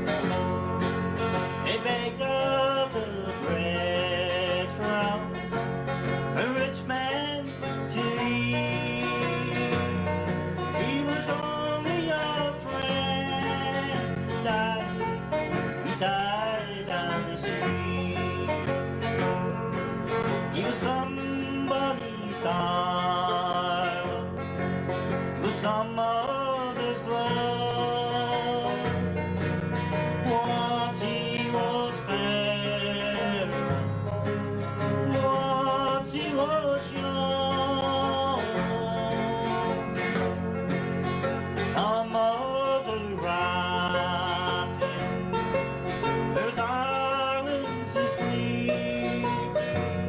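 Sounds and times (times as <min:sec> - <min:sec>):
country band instrumental: 0:00.0 - 0:50.0.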